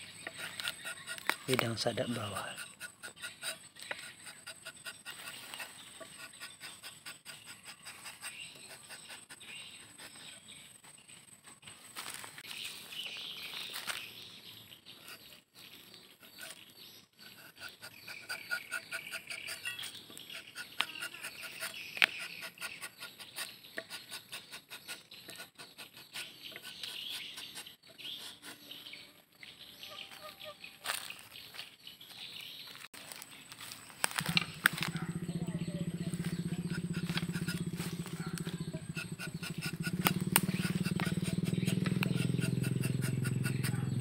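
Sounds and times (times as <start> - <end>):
birds chirping and trilling: 0.0 - 44.0.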